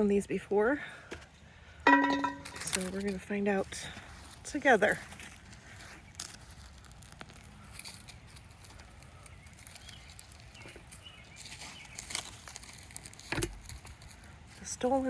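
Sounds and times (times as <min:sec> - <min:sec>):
plants rustling as pulled up: 0:02.4 - 0:15.0.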